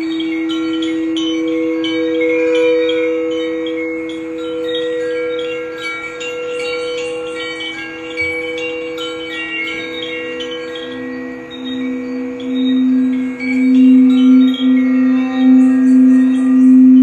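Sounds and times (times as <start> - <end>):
ringing drone: 0.0 - 17.0
wind chimes tinkling: 0.0 - 17.0.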